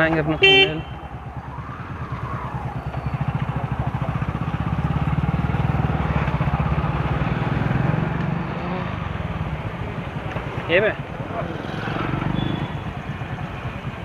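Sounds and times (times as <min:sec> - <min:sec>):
motorbike engine running: 0:00.4 - 0:14.0.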